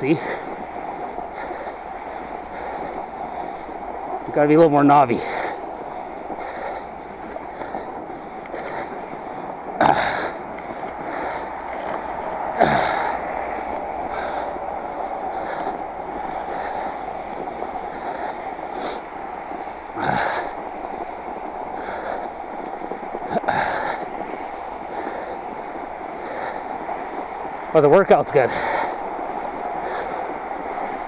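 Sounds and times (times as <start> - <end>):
bike tires rolling through snow: 0.0 - 31.0.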